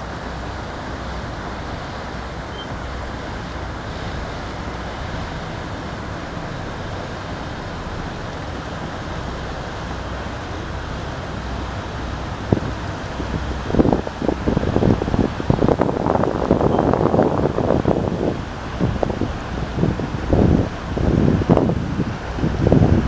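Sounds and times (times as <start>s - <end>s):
ship diesel engine chugging: 0.0s - 18.8s
wind on microphone: 0.0s - 23.0s.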